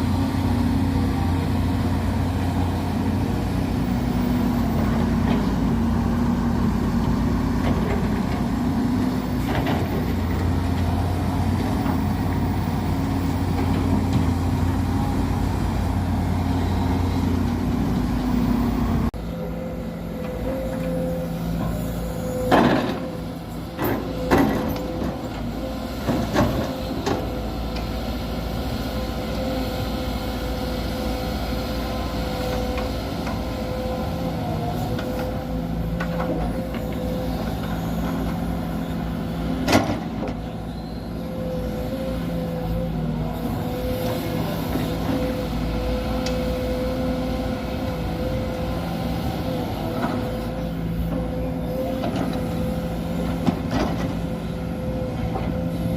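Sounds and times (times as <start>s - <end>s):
excavator diesel engines running: 0.0s - 55.9s.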